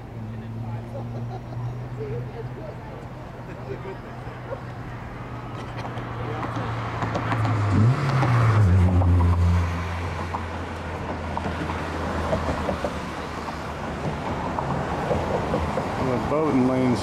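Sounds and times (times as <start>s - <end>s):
traffic rumble: 0.0s - 17.0s
vehicle engine hum passing by: 0.0s - 17.0s.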